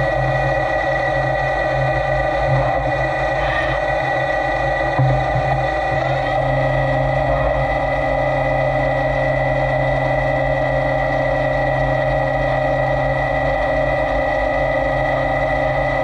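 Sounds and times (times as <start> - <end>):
high machine whine: 0.0 - 16.0
lathe machine hum: 0.0 - 16.0.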